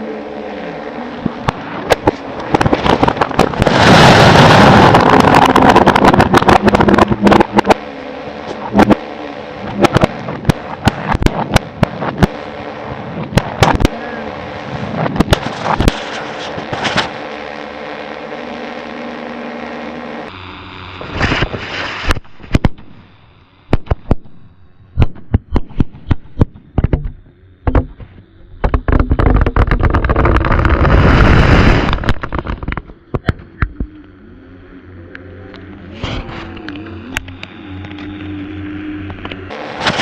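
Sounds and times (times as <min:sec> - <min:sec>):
rapid crackling and rushing: 0:00.0 - 0:40.0.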